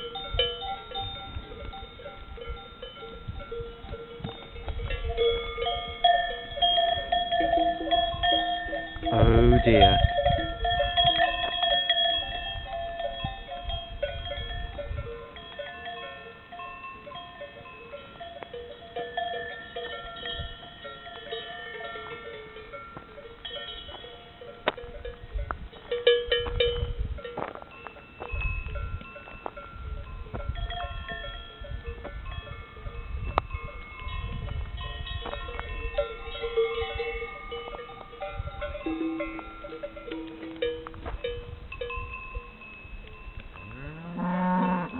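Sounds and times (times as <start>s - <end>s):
cattle bells ringing: 0.0s - 44.9s.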